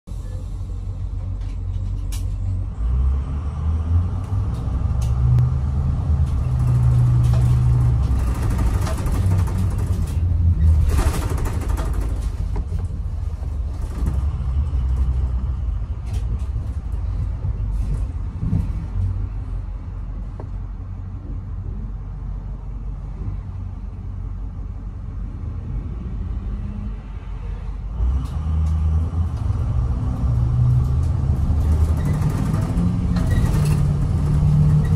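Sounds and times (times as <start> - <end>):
road rumble: 0.0 - 34.9
bus diesel engine running: 0.1 - 34.9.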